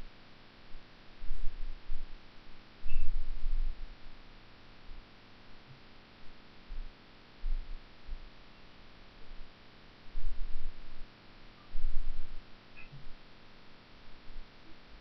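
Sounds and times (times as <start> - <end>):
low hiss and hum: 0.0 - 15.0.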